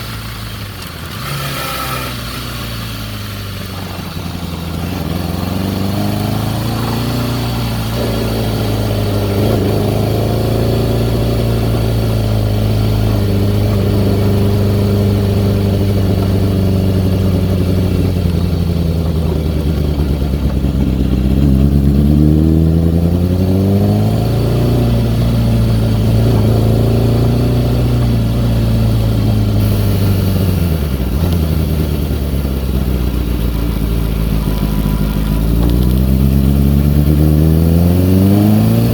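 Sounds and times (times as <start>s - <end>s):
motorcycle engine running unevenly: 0.0s - 38.9s.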